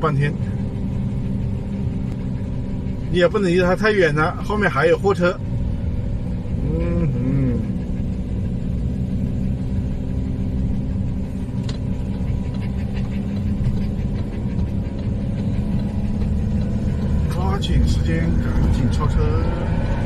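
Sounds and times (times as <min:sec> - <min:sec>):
engine running: 0:00.0 - 0:20.0
tyres rumbling on rough road: 0:00.0 - 0:20.0.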